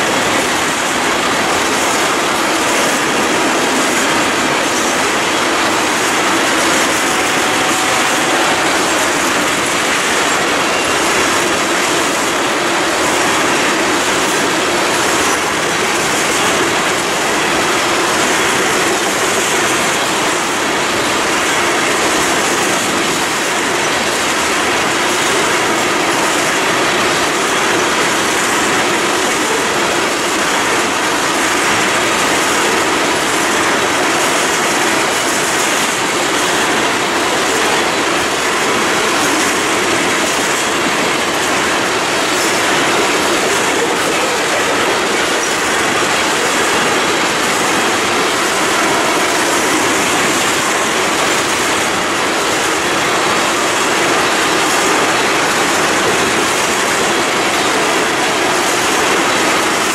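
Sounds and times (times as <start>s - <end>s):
train wheels clattering on rail: 0.0s - 59.9s.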